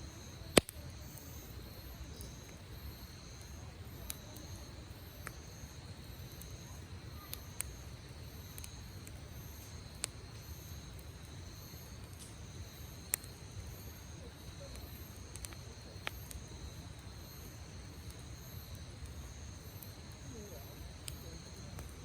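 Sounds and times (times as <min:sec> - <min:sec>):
campfire crackling and popping: 0:00.0 - 0:22.0
insects chirring: 0:00.0 - 0:22.0.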